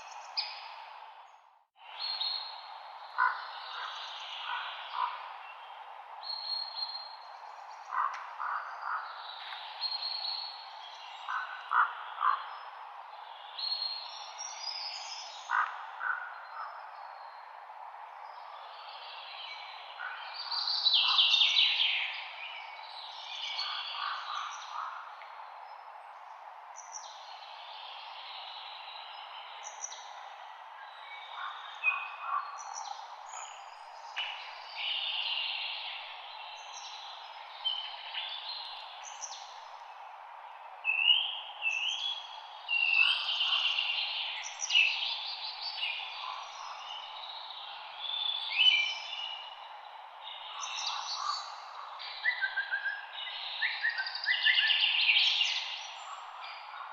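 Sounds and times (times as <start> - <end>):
leaves rustling in wind: 0.0 - 56.9
songbirds singing: 0.0 - 56.9.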